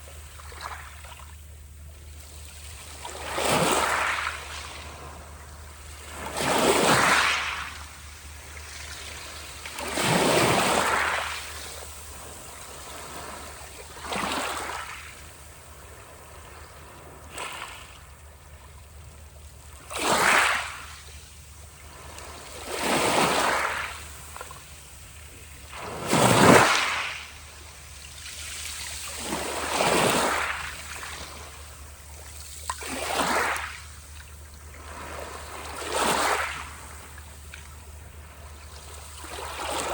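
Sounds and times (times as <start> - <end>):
sea waves breaking: 2.7 - 18.0, 21.8 - 39.9.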